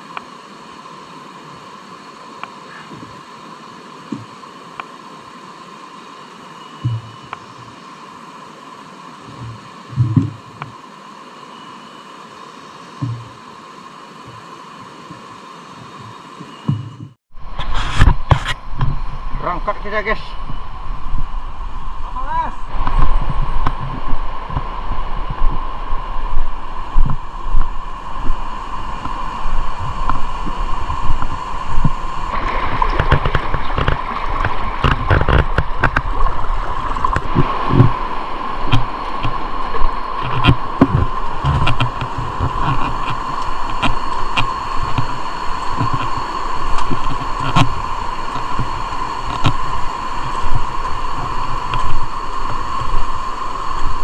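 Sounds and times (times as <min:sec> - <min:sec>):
muffled underwater river rush: 0:00.0 - 0:54.0.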